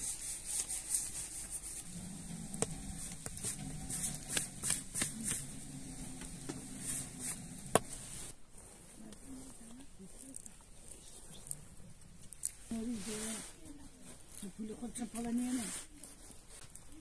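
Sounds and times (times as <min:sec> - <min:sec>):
hands brushing and patting dough: 0:00.0 - 0:17.0.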